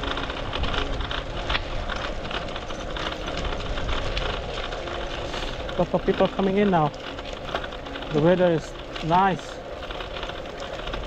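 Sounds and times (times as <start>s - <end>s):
bicycle rattles: 0.0s - 11.0s
bicycle tyres crunching on gravel: 0.0s - 11.0s
wind rumble on microphone: 0.0s - 11.0s.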